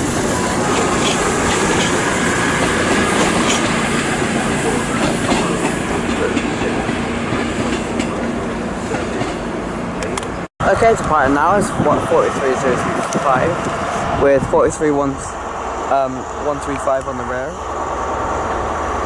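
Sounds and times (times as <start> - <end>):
diesel train engine rumble: 0.0 - 19.0.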